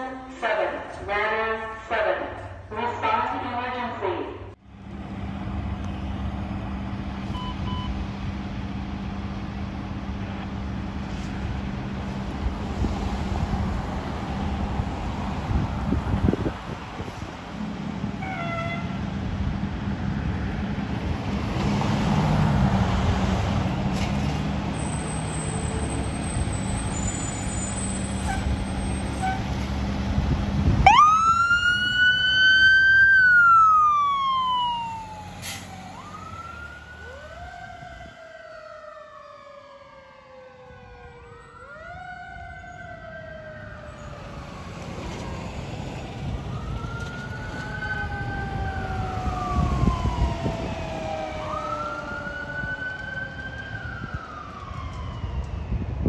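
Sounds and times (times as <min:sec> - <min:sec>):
diesel engine rumbling: 0:04.5 - 0:38.1, 0:42.9 - 0:55.3
fire engine siren wailing: 0:05.2 - 0:56.0.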